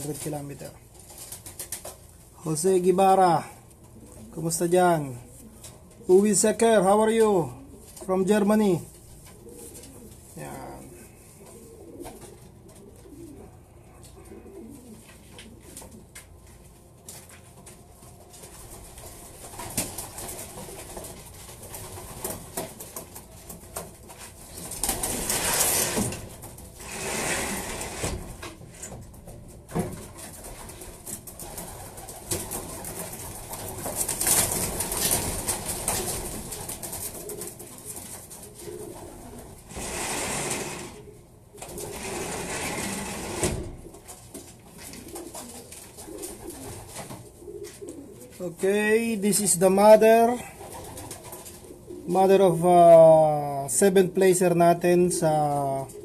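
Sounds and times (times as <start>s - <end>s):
wings flapping and rustling: 0.0s - 2.4s, 3.7s - 52.7s
pigeons cooing: 3.4s - 16.4s, 18.4s - 53.7s, 55.3s - 56.0s.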